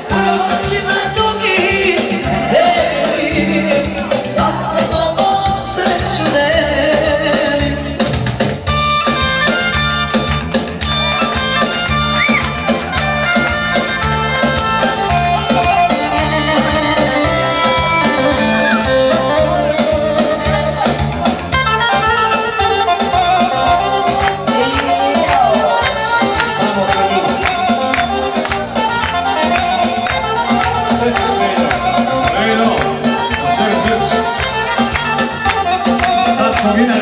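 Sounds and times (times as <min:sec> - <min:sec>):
live dance band with keyboard: 0:00.0 - 0:37.0.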